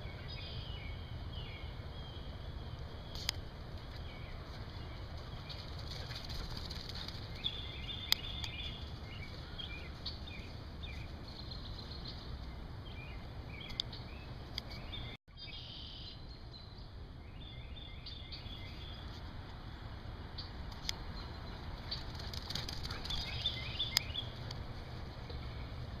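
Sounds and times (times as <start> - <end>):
birds chirping: 0.0 - 26.0
low outdoor rumble: 0.0 - 26.0.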